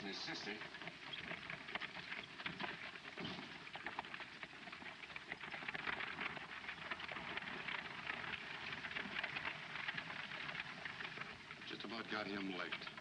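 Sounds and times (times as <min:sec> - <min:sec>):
horse hooves clattering on dirt: 0:00.0 - 0:13.0.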